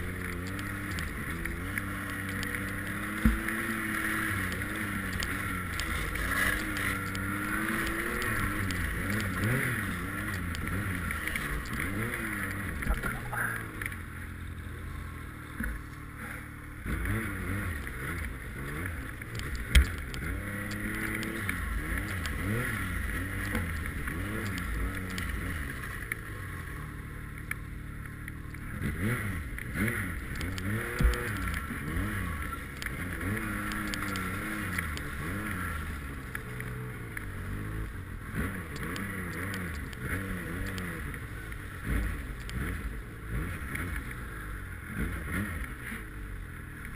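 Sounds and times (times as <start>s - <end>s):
snowmobile engine revving: 0.0s - 27.3s, 28.1s - 46.9s.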